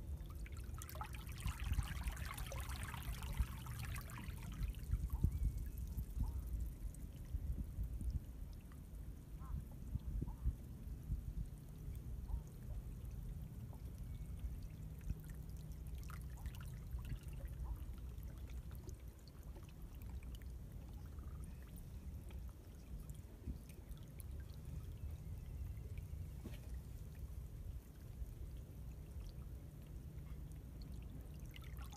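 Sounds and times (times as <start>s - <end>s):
seawater trickling between rocks: 0.0s - 8.9s, 11.9s - 31.9s.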